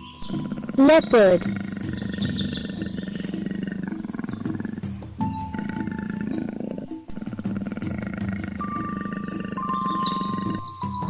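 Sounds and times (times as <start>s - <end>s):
leopard growling and roaring: 0.0s - 11.0s
steady musical tones: 0.0s - 11.0s.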